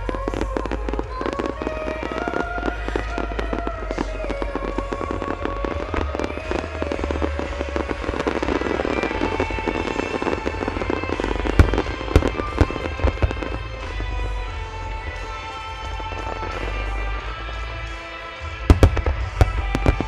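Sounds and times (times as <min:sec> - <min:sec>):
fireworks cracking bursts: 0:00.0 - 0:20.0
slow held melody music: 0:00.0 - 0:20.0.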